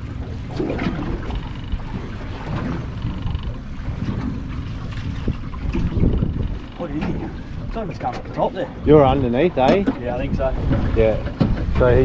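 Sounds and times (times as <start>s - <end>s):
sea washing around boat: 0.0s - 12.0s
wind rumbling on microphone: 0.0s - 12.0s.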